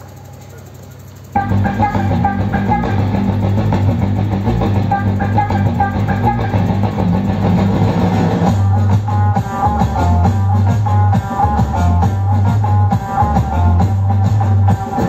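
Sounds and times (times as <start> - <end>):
dance music over loudspeaker: 1.4 - 15.0.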